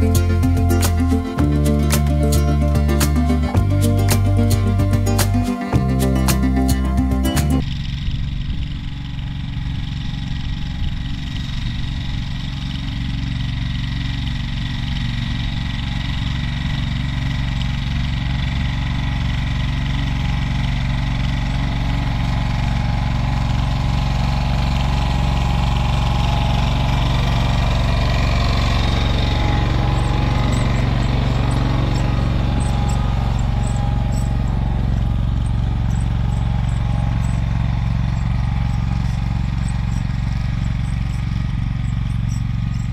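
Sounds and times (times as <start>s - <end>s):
garden tractor engine: 0.0s - 42.9s.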